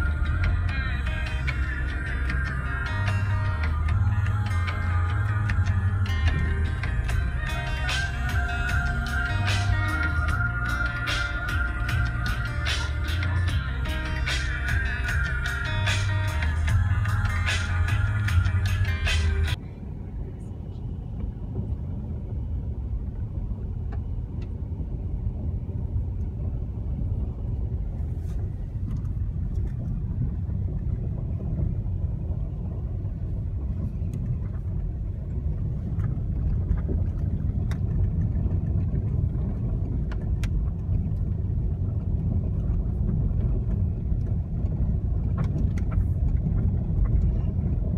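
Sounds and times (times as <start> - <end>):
car engine rumble inside cabin: 0.0 - 47.9.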